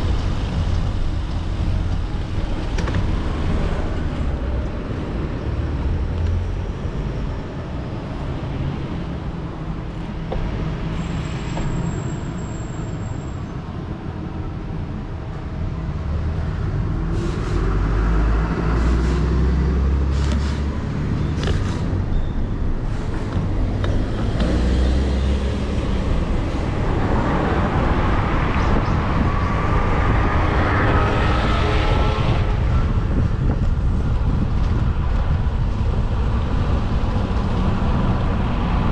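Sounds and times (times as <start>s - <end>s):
low traffic rumble: 0.0s - 38.9s
vehicles passing: 0.0s - 38.9s.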